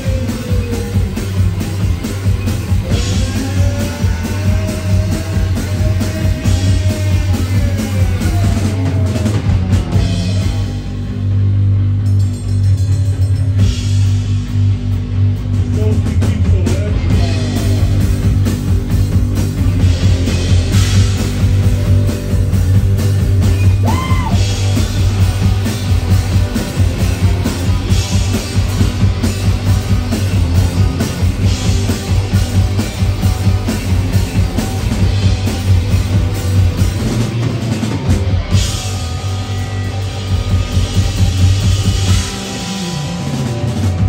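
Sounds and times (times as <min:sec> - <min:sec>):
bass guitar: 0:00.0 - 0:44.0
drum kit: 0:00.0 - 0:44.0
electric guitars: 0:00.0 - 0:44.0.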